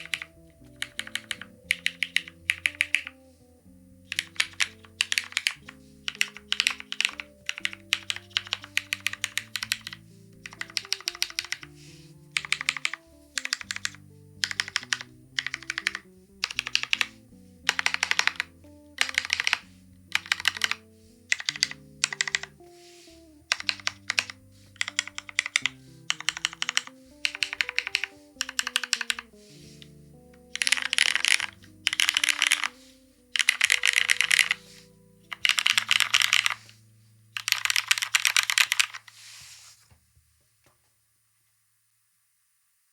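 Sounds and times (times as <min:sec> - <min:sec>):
mechanical keyboard typing: 0:00.0 - 0:03.2, 0:04.1 - 0:22.6, 0:23.4 - 0:29.4, 0:30.4 - 0:36.8, 0:37.4 - 0:39.1
soft background music: 0:00.0 - 0:39.7.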